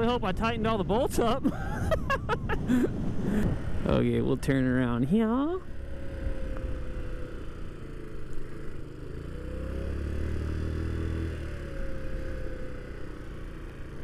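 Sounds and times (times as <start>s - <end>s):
wind and road noise: 0.0s - 14.0s
scooter engine running: 1.3s - 14.0s.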